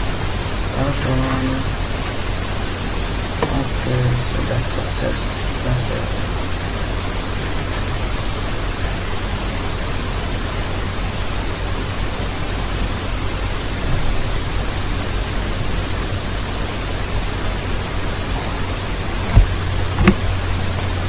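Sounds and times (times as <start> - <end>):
low electrical hum: 0.0 - 21.0
steady hiss: 0.0 - 21.0.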